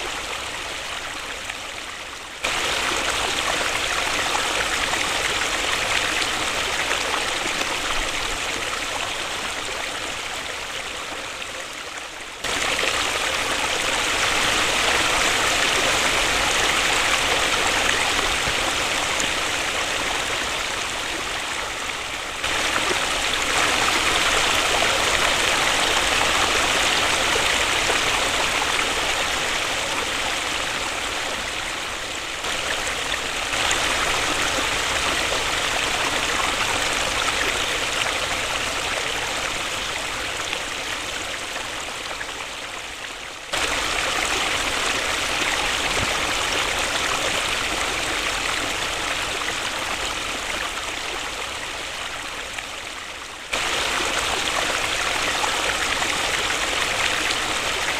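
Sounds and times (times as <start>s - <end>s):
waterfall rushing: 2.4s - 10.7s, 12.4s - 42.2s, 43.5s - 52.4s, 53.5s - 57.9s.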